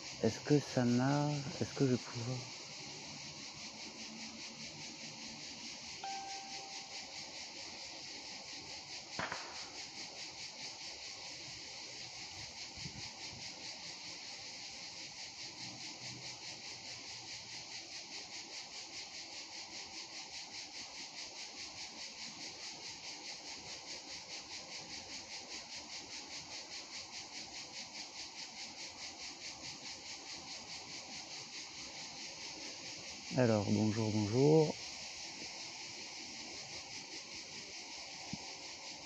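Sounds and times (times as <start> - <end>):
insects shrilling in a pulse: 0.0 - 39.0.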